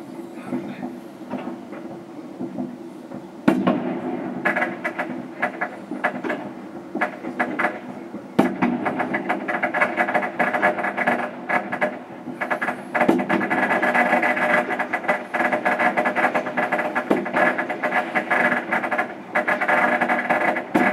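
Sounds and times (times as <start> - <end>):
firecrackers crackling: 0.4 - 20.9.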